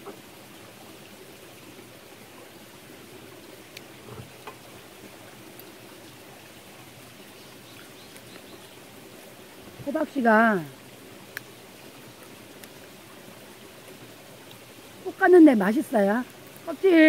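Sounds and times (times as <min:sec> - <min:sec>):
mountain stream flowing: 0:00.0 - 0:17.0.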